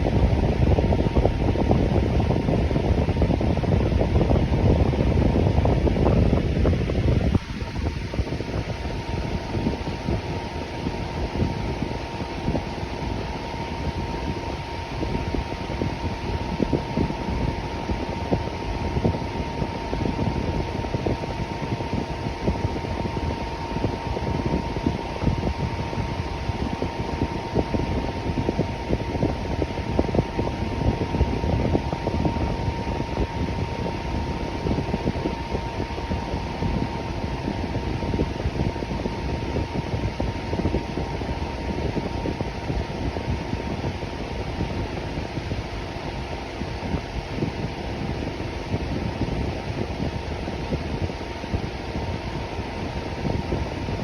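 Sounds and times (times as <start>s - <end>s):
electric fan air rush: 0.0s - 54.0s
thin fan whine: 0.0s - 54.0s.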